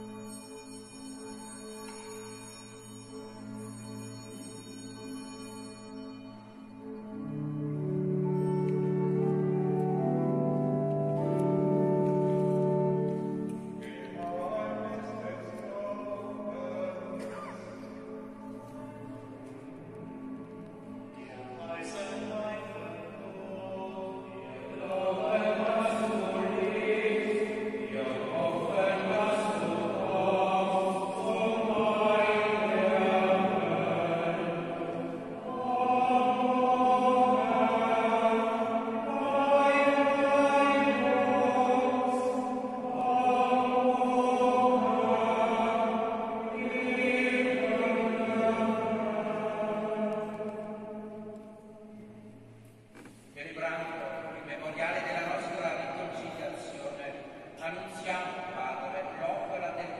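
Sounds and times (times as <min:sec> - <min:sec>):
liturgical chant singing: 0:00.0 - 0:59.9.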